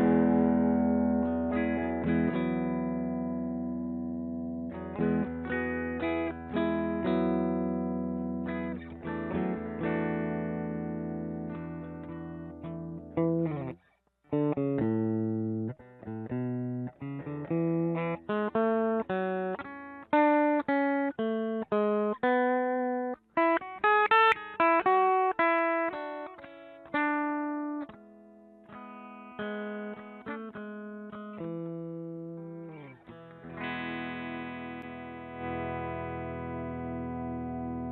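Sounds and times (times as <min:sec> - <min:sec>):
electric guitar chords and notes: 0:00.0 - 0:37.9.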